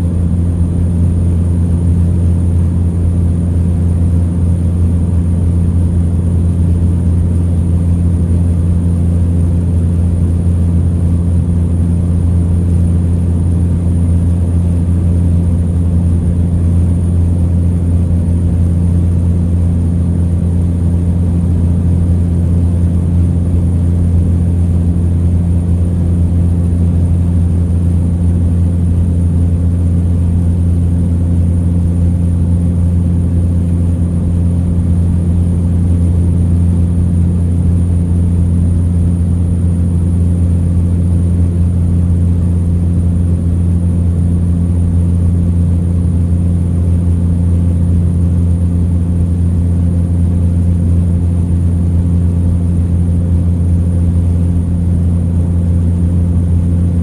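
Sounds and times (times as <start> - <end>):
turboprop engine droning: 0.0 - 57.0.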